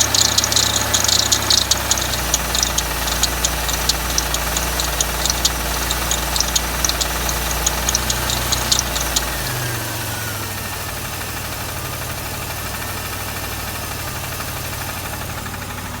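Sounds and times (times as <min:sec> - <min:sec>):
car engine running: 0:00.0 - 0:13.7
engine knocking: 0:00.0 - 0:16.0.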